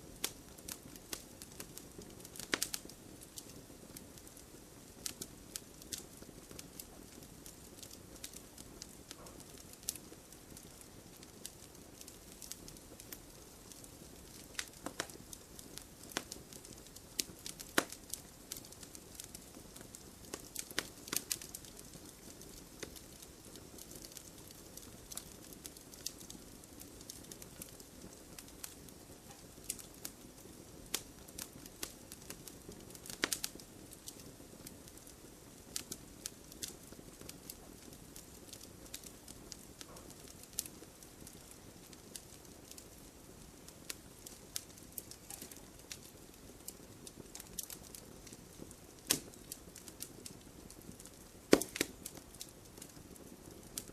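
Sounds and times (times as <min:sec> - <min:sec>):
fire crackles and pops: 0:00.0 - 0:53.9
campfire rushing: 0:00.1 - 0:53.9.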